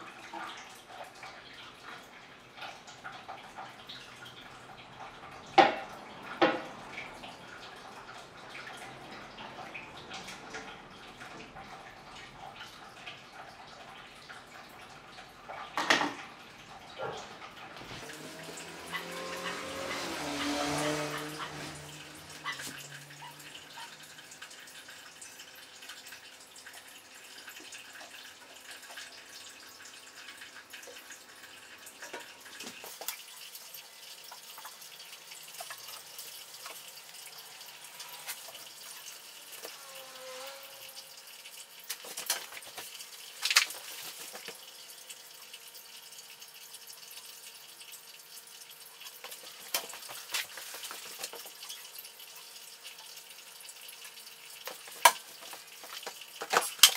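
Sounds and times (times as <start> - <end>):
water dripping and trickling: 0.0 - 56.9.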